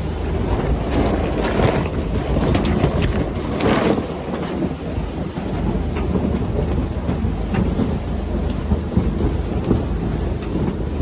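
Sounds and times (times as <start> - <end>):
heavy rain: 0.0 - 11.0
wind buffeting microphone: 0.0 - 11.0.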